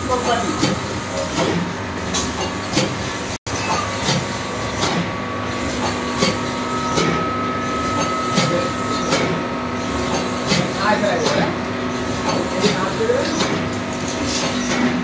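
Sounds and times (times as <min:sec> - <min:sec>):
machine mechanical hum: 0:00.0 - 0:15.0
sharp machine clack: 0:00.0 - 0:15.0.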